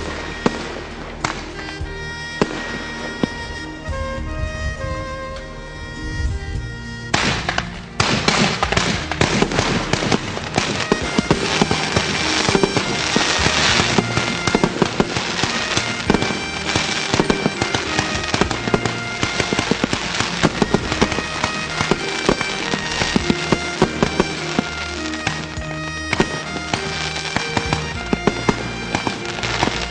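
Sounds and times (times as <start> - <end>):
fireworks cracking and banging: 0.0 - 5.5, 7.1 - 29.9
background music: 0.0 - 29.9.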